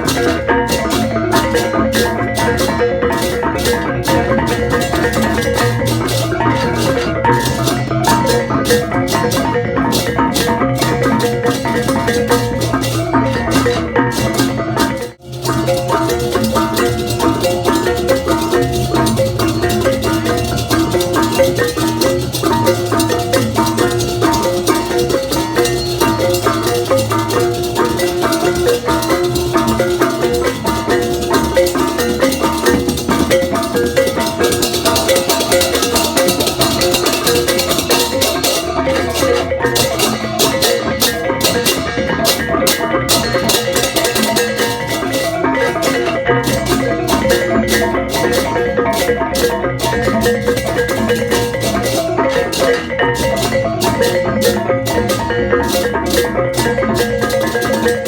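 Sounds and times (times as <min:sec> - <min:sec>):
gamelan percussion and drums: 0:00.0 - 0:58.0.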